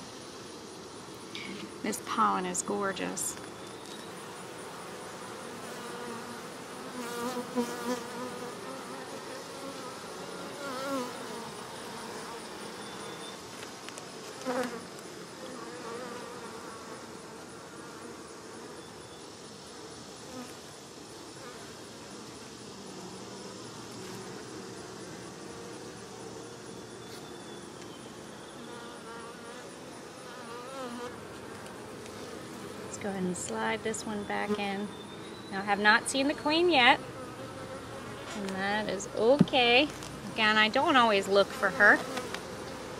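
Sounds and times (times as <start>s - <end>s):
bees buzzing: 3.8s - 13.4s, 14.2s - 19.4s, 21.4s - 42.9s.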